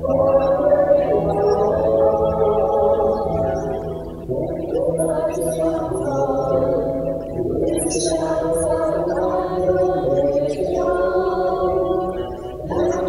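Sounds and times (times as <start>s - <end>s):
hymn sung in church: 0.0s - 13.0s.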